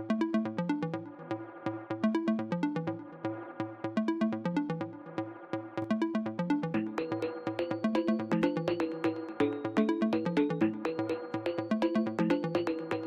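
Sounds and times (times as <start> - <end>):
electronic music with beat: 0.0 - 13.0.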